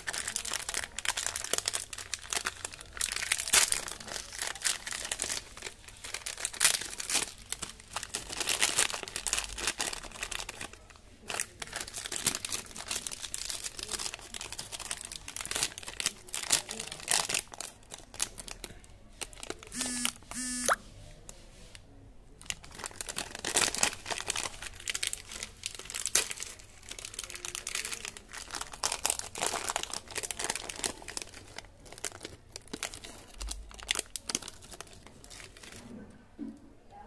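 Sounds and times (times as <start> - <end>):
candy wrappers crinkling: 0.0 - 20.3, 22.3 - 35.8.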